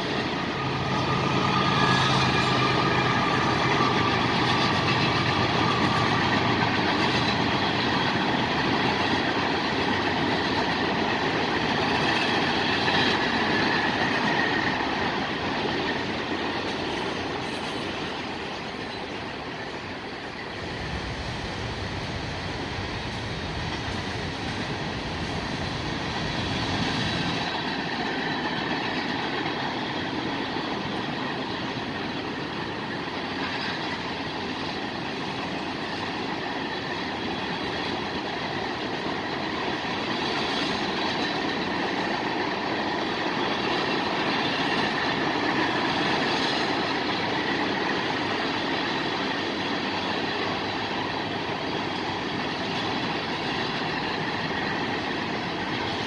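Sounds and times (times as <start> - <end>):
steel wheels on rail: 0.0 - 56.0.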